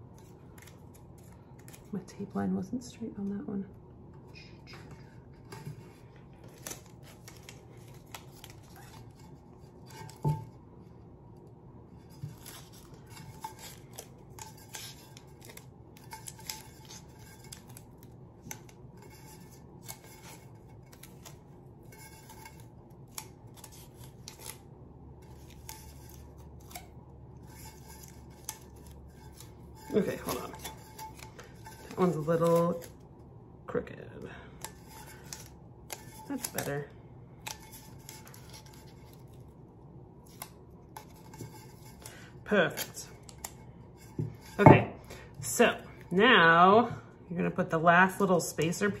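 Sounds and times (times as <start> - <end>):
tape crackling and rustling: 0.0 - 2.9, 4.0 - 33.4, 34.5 - 46.2.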